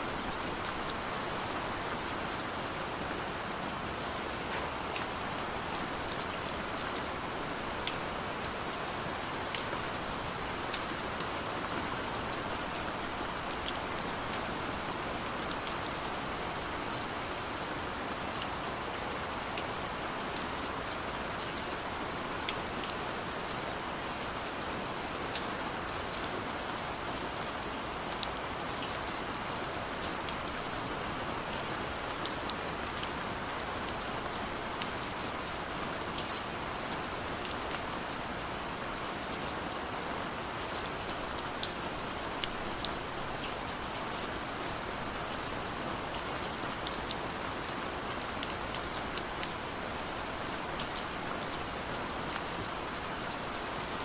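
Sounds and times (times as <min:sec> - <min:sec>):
gentle rain hiss: 0:00.0 - 0:54.0.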